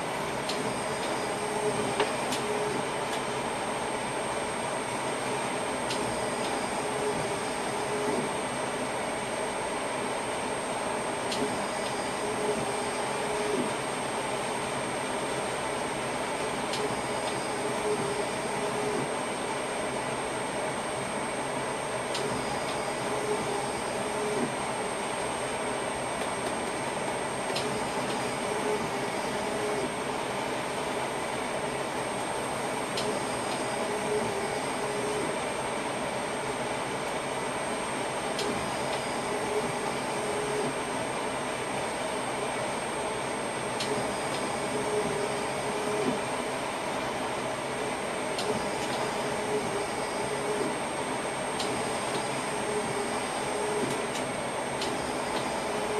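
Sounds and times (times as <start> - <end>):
train cab running hum and rush: 0.0 - 55.9.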